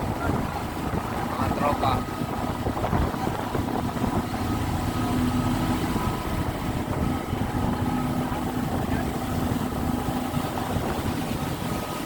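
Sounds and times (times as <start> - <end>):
boat engine droning: 0.0 - 12.0
water wash: 0.0 - 12.0.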